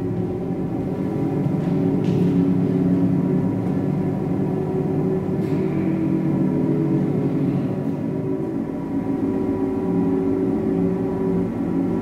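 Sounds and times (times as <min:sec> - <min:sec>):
low drone of held tones: 0:00.0 - 0:12.0.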